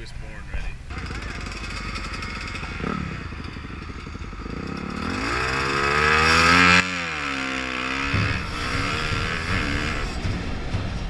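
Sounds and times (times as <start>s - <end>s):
dirt bike engine accelerating: 0.9s - 11.0s.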